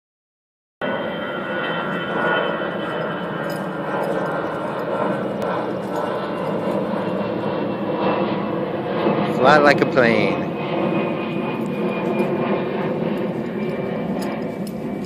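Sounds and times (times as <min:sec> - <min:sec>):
airplane engine drone: 0:00.8 - 0:15.0.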